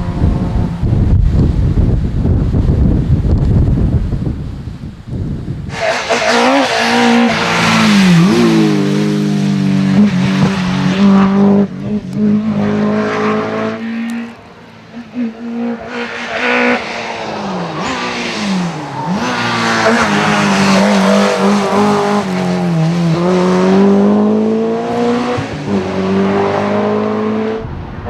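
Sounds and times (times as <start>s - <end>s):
rally car engine revving: 0.0s - 4.2s, 5.6s - 28.0s.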